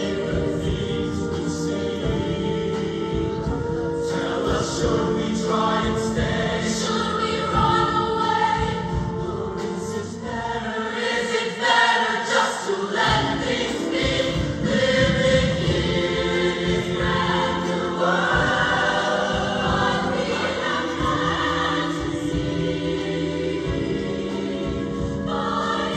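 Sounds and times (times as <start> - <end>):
choir singing in harmony: 0.0 - 25.9
musical accompaniment: 0.0 - 25.9.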